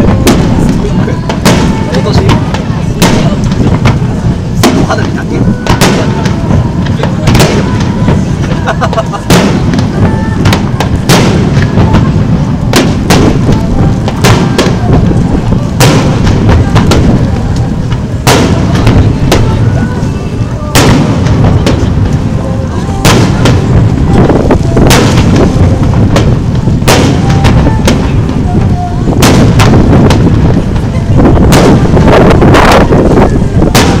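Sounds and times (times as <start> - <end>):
continuous low rumble: 0.0 - 34.0.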